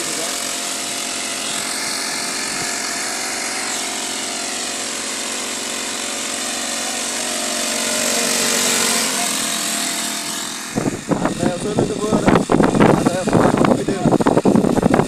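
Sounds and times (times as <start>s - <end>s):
small sprayer engines running: 0.0s - 15.0s.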